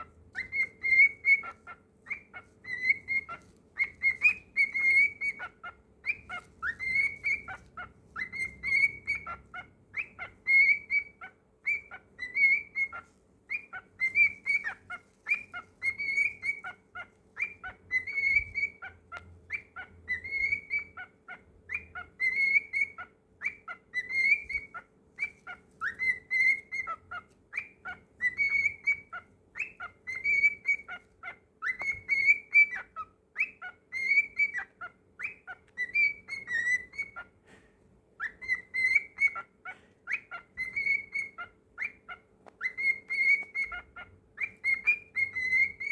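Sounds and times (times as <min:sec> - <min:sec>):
cockatiel whistling: 0:00.0 - 0:37.3, 0:38.2 - 0:45.9.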